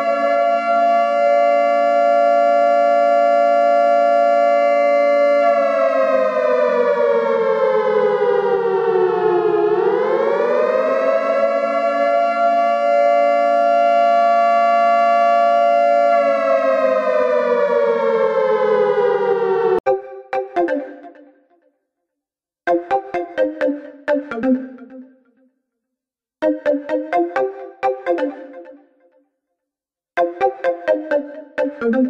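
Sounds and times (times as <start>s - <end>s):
two-tone siren wail: 0.0s - 21.4s, 22.7s - 25.2s, 26.4s - 29.0s, 30.2s - 32.0s.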